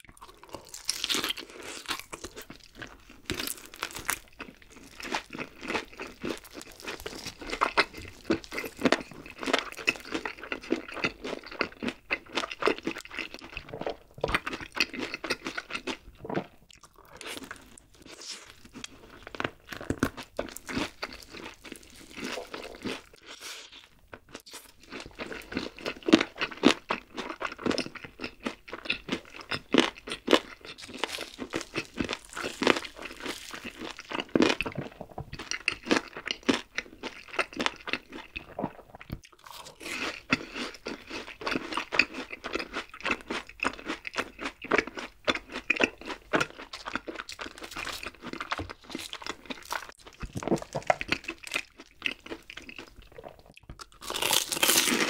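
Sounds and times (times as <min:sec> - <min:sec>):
chewing crispy fried chicken: 0:00.0 - 0:55.0.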